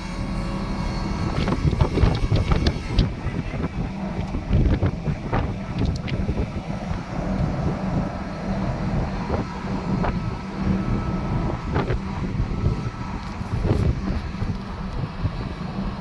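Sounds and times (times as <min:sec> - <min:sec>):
steady low hum: 0:00.0 - 0:16.0
wind buffeting microphone: 0:00.0 - 0:16.0.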